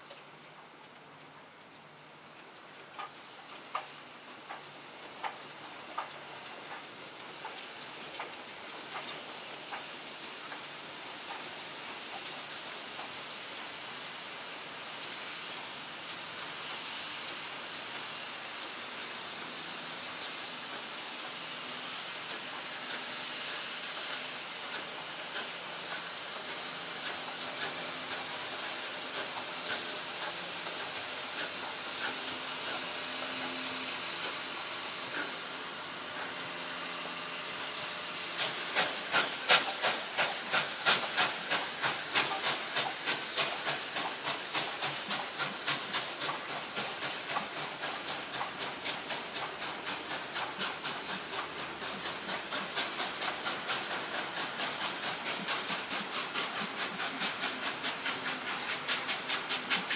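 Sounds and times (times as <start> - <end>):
steam locomotive hissing: 1.5 - 59.9
sharp locomotive exhaust beats: 8.7 - 59.9.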